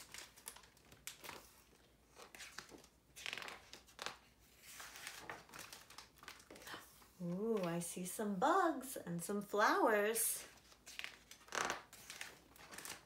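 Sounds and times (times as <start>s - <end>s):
book pages rustling: 0.0s - 7.9s, 10.4s - 13.0s.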